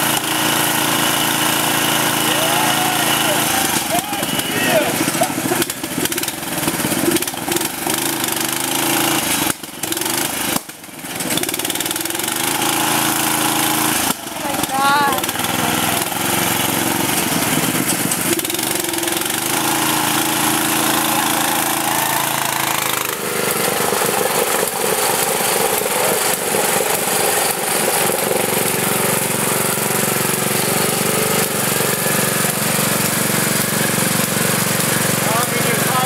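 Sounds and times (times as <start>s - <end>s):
lawn mower engines running: 0.0s - 36.0s.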